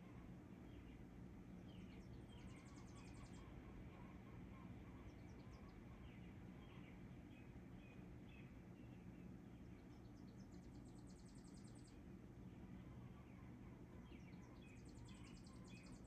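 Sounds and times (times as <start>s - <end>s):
low background rumble: 0.0s - 16.0s
small birds chirping: 0.0s - 16.0s.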